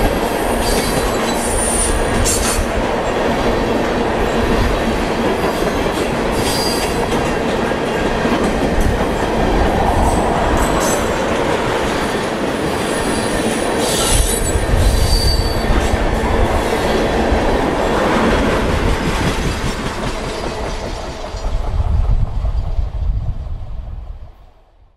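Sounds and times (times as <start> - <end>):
train wheels rumbling on rails: 0.0 - 24.6.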